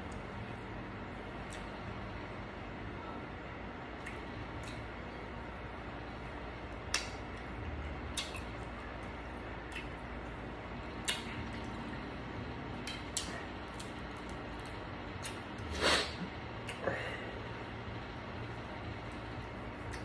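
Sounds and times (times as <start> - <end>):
wet squishes of eating: 0.0 - 15.8, 17.4 - 20.0.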